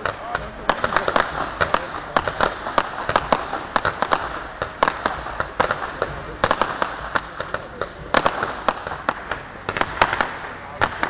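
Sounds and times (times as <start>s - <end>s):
fireworks crackling and popping: 0.0s - 11.0s
steady hiss: 0.0s - 11.0s.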